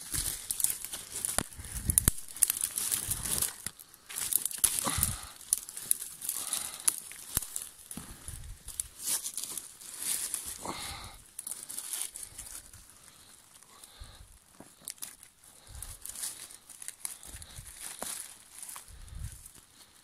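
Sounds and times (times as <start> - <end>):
dry leaves rustling and crackling: 0.0 - 20.0
twigs snapping: 0.0 - 20.0.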